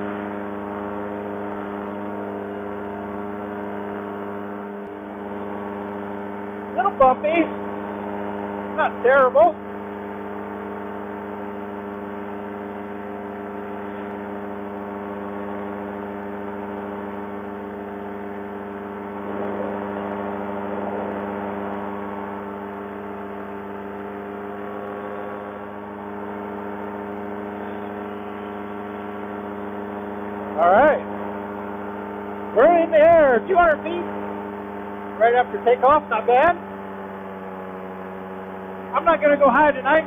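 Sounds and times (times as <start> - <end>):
paramotor engine and propeller drone: 0.0 - 40.0.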